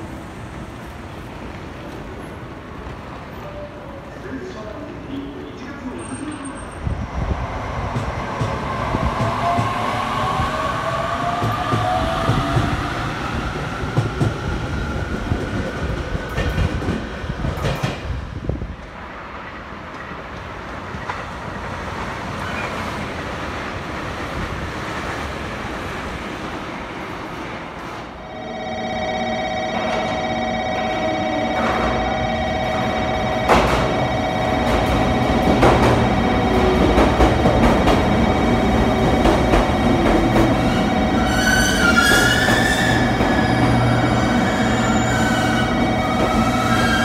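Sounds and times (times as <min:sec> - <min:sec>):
train rushing past: 0:00.0 - 0:47.0.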